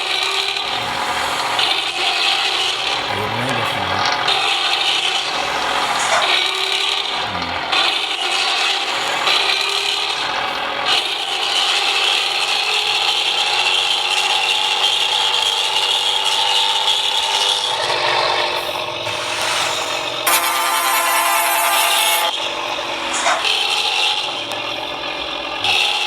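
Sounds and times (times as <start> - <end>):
raspy diesel engine running: 0.0 - 26.0.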